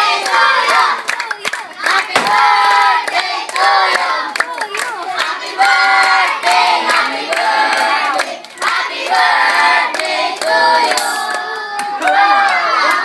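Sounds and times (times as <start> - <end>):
children and adults singing in chorus: 0.0 - 13.0
hands clapping: 0.2 - 13.0.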